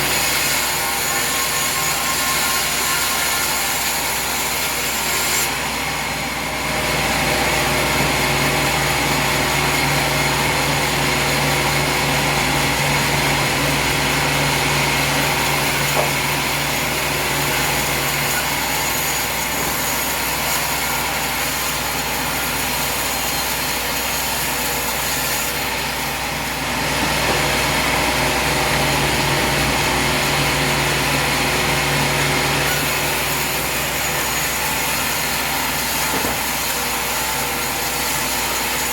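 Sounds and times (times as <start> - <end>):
saw cutting through wood: 0.0 - 38.9.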